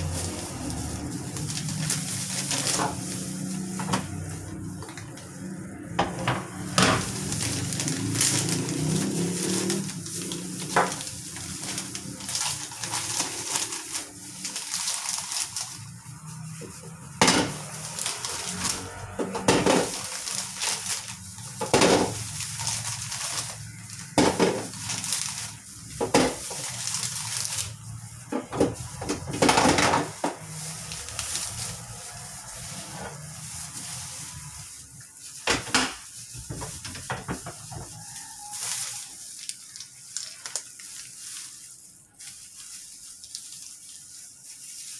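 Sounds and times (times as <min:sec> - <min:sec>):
plastic bag crinkling: 0:00.0 - 0:44.9.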